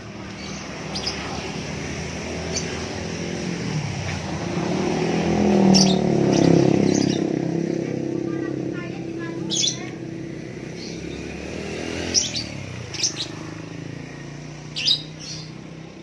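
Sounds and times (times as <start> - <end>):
songbirds chirping: 0.0 - 16.0
vehicle engine hum passing: 0.0 - 16.0.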